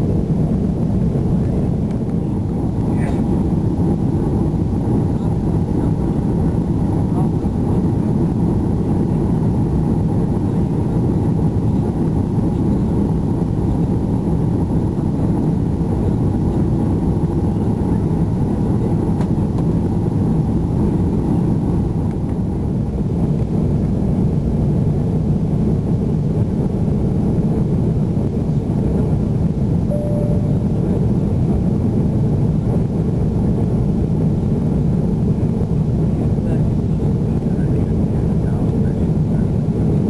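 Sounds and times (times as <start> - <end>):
airliner engines rumbling in cabin: 0.0 - 40.0.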